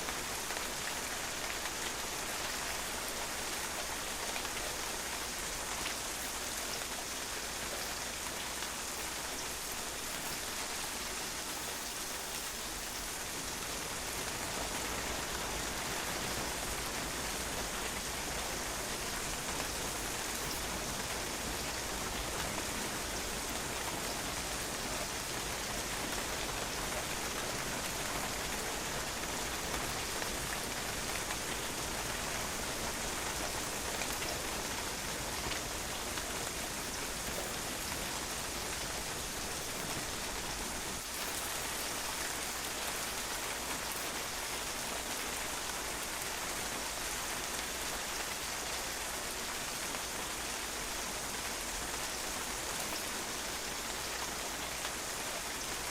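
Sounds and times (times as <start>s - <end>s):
rain pattering on a patio: 0.0s - 55.9s.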